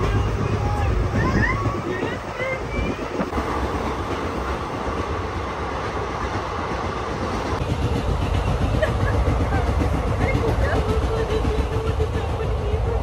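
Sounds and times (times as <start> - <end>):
train wheels and carriage noise: 0.0 - 13.0.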